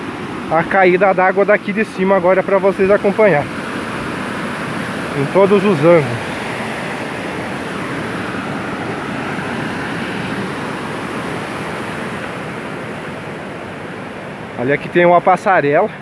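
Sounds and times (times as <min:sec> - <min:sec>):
water rushing over spillway: 0:00.0 - 0:16.0.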